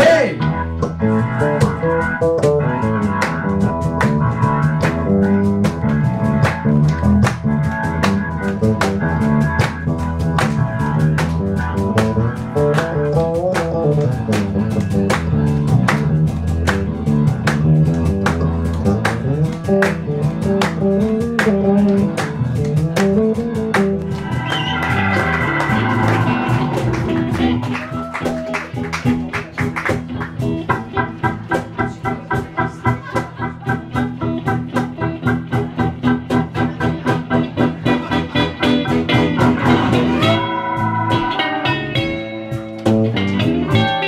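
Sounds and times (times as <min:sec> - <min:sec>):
electric bass line: 0:00.0 - 0:44.0
steady drum beat: 0:00.0 - 0:44.0.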